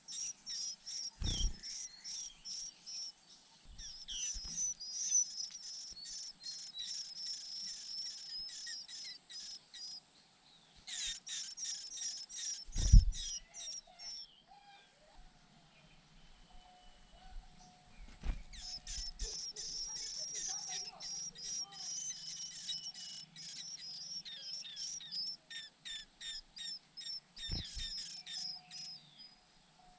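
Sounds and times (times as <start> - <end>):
nestlings chirping: 0.0 - 10.0, 10.8 - 14.3, 18.0 - 29.4.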